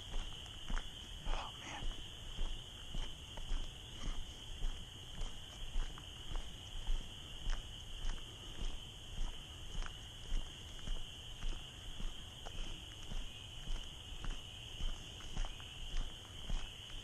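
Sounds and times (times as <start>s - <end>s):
footsteps on a trail: 0.0s - 17.0s
high-pitched night animal chorus: 0.0s - 17.0s.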